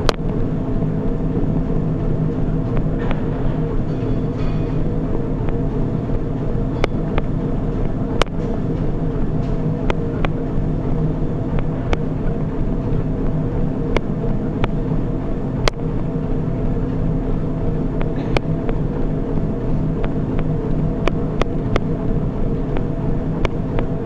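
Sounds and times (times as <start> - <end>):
treadmill motor hum and belt whir: 0.0 - 24.0.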